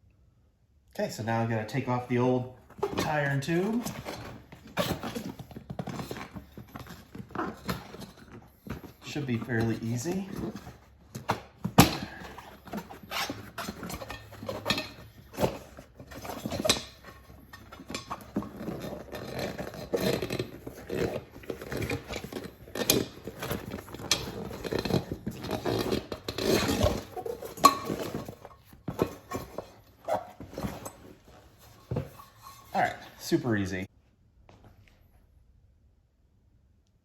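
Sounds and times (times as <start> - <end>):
rubber rubbing and scraping: 1.7 - 33.3
tire clinking against rim: 2.8 - 33.2.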